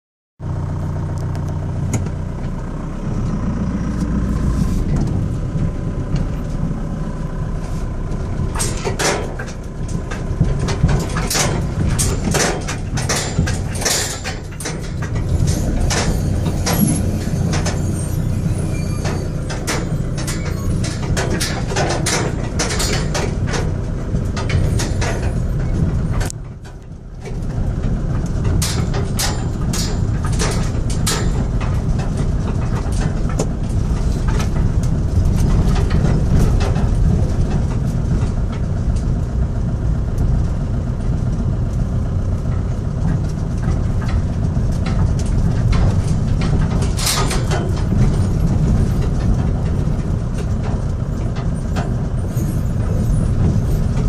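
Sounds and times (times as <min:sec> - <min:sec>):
car engine running steadily: 0:00.4 - 0:54.0
car knocking and rattling over potholes: 0:00.4 - 0:54.0.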